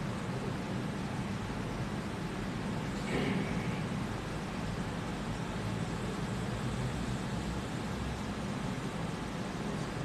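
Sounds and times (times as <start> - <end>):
room hiss: 0.0 - 10.0.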